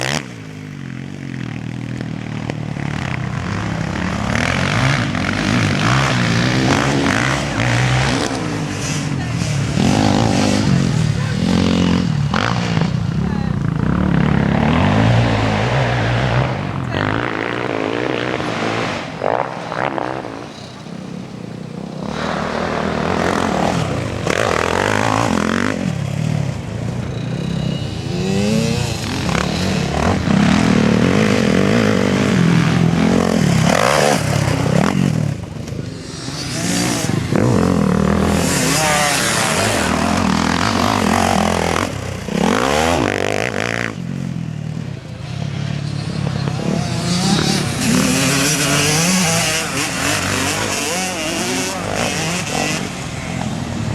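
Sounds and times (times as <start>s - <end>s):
motocross engines revving: 0.0s - 53.9s.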